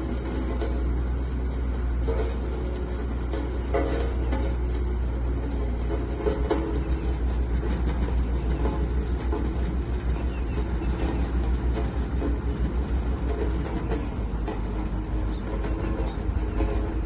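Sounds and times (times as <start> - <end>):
road roller diesel engine rumbling: 0.0 - 17.0.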